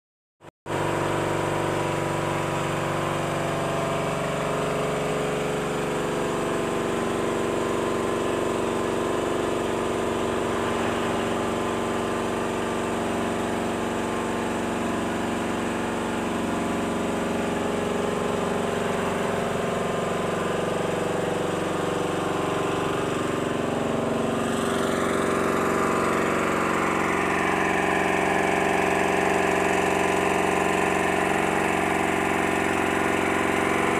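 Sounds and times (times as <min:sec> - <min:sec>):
generator engine running: 0:00.7 - 0:33.9.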